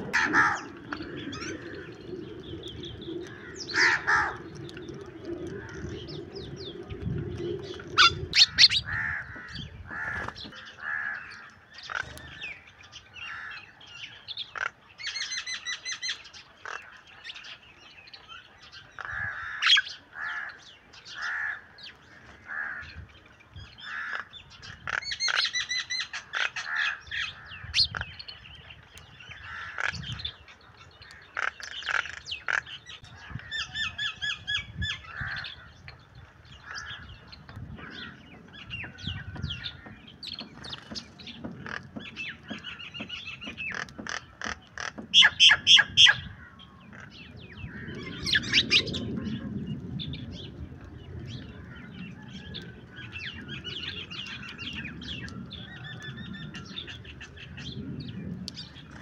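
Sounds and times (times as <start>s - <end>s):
sparrows and mynas chirping: 0.0s - 59.0s.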